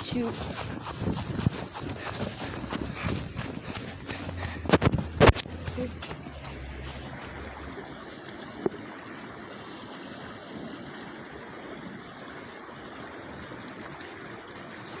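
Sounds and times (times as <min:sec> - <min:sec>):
rainwater rushing into drain: 0:00.0 - 0:15.0.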